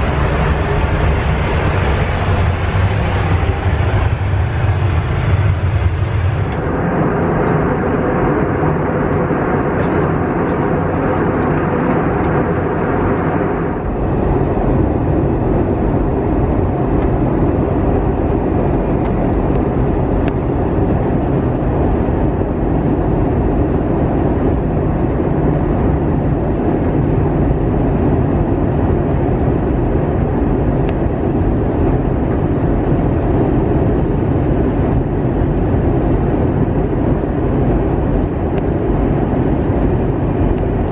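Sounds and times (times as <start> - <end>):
airplane engine rumble: 0.0 - 40.9.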